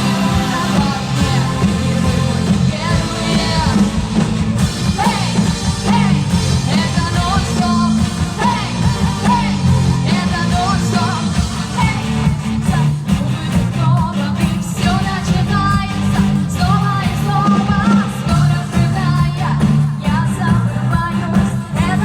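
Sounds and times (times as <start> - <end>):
person singing: 0.0 - 4.3, 4.9 - 22.0
band playing a song: 0.0 - 22.0
bass line: 0.0 - 22.0.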